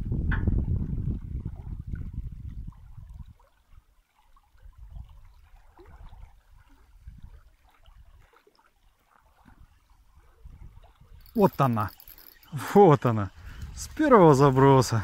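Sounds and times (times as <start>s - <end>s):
river water trickling: 0.0s - 15.0s.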